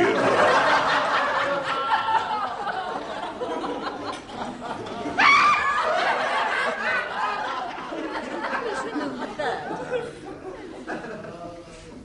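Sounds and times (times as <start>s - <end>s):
audience laughing: 0.0s - 11.5s.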